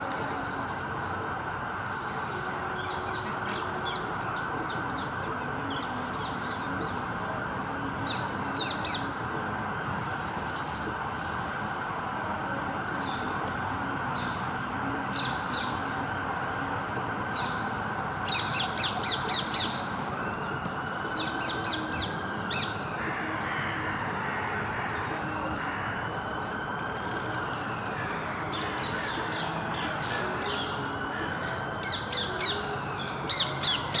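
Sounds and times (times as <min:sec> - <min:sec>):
road traffic: 0:00.0 - 0:34.0
siren wailing: 0:00.4 - 0:34.0.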